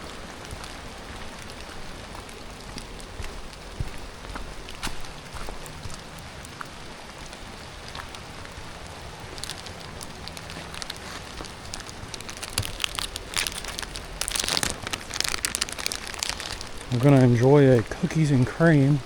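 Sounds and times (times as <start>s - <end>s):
steady rain falling: 0.0s - 19.0s
crackling and rustling clicks: 0.4s - 18.3s.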